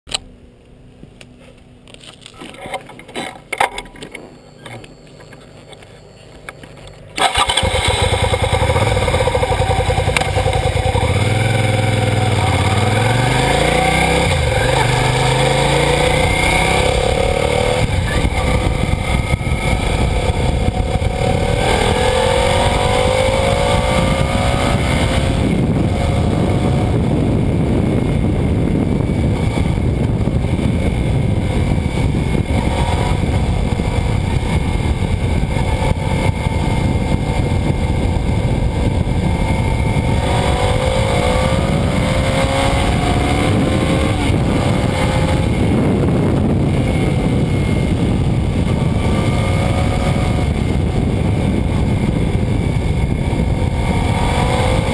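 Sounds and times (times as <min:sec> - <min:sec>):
motorcycle engine accelerating: 0:06.7 - 0:54.9
wind noise: 0:07.2 - 0:54.9.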